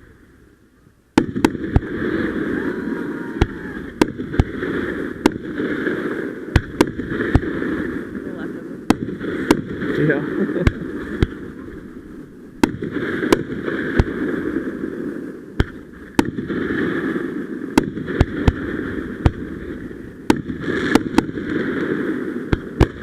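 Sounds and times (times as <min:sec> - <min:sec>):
fireworks bangs: 0:01.1 - 0:23.0.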